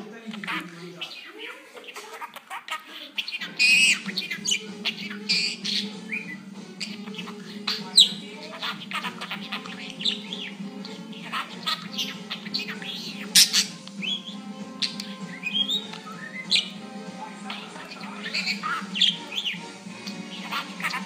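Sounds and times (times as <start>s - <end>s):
budgerigar chirping and squawking: 0.1s - 21.0s.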